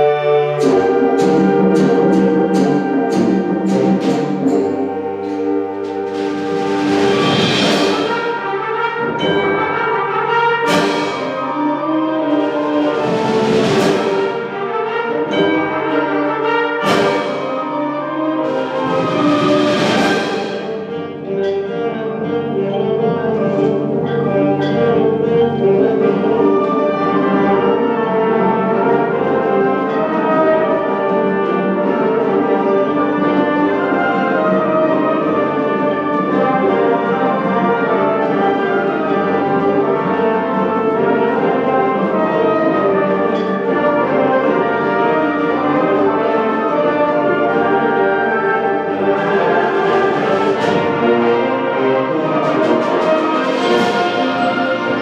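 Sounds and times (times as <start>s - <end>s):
brass chords: 0.0s - 55.0s
concert band playing: 0.0s - 55.0s.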